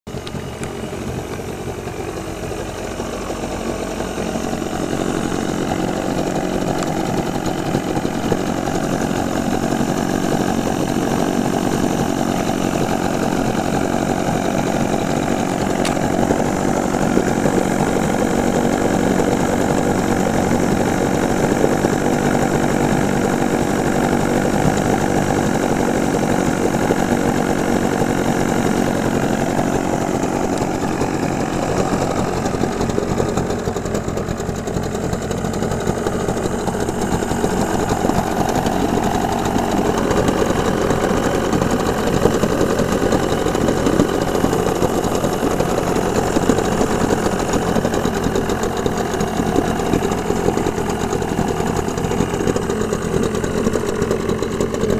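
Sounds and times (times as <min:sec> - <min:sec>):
two-stroke outboard motor running: 0:00.1 - 0:54.9.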